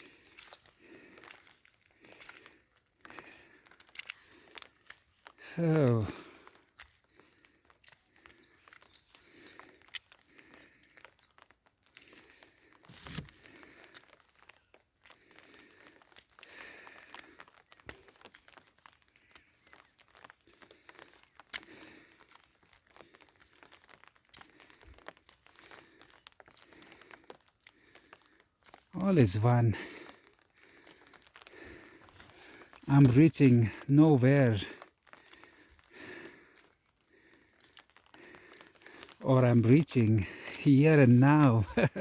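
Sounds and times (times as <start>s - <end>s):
crinkling and rustling: 0.6s - 5.5s, 9.6s - 29.0s, 29.8s - 42.0s.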